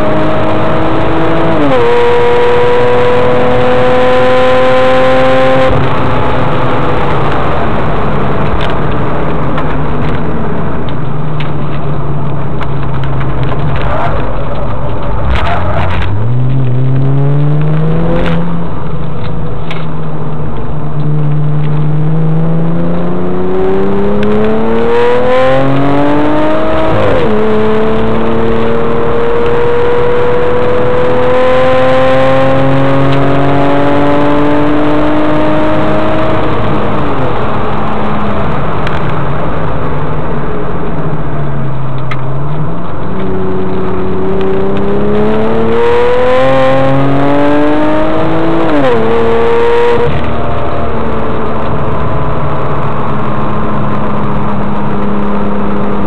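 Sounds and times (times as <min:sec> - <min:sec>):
car engine under hard acceleration: 0:00.0 - 0:56.0.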